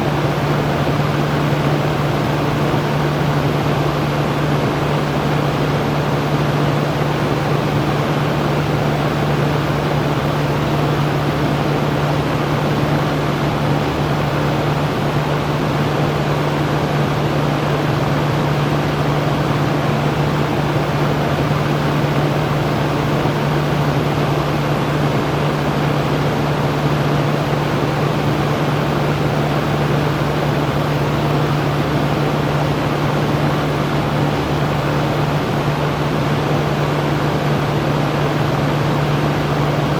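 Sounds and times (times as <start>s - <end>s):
electric fan rushing air: 0.0s - 39.9s.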